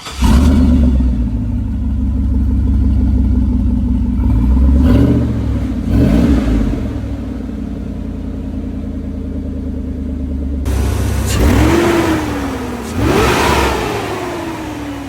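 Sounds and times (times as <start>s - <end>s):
truck engine idling and revving: 0.0s - 15.0s.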